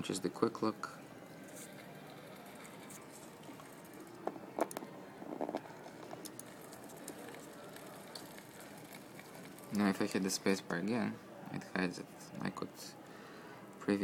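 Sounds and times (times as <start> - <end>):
faint video soundtrack from speakers: 0.0 - 14.0.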